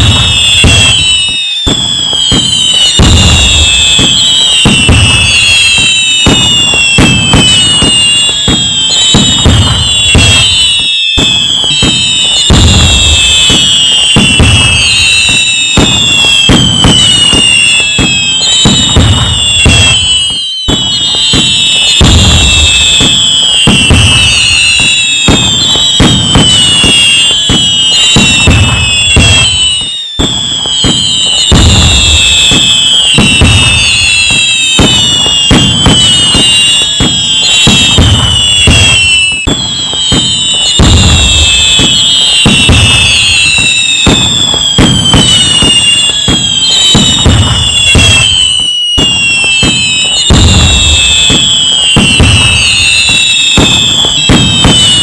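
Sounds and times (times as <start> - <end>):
fireworks bangs and crackling: 0.0 - 55.0
fireworks whistles falling: 0.0 - 55.0.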